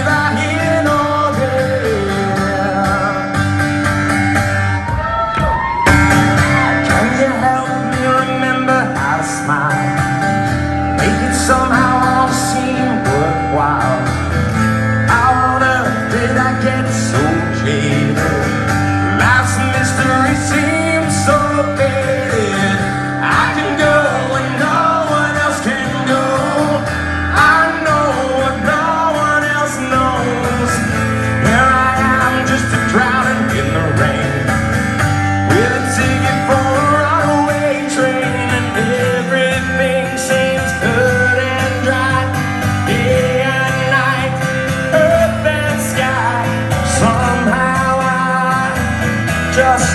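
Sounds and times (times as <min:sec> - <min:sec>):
man singing: 0:00.0 - 0:03.9, 0:06.1 - 0:49.9
strummed acoustic guitar: 0:00.0 - 0:49.9.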